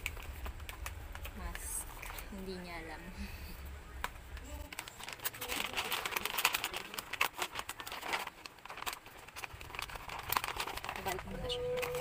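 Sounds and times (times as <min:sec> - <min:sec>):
gift wrap crinkling: 0:00.0 - 0:02.8, 0:04.0 - 0:12.0.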